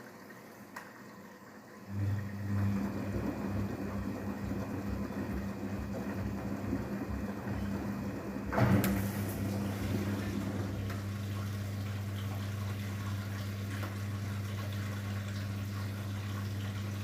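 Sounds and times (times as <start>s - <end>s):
washing machine drum humming: 0.3s - 17.0s.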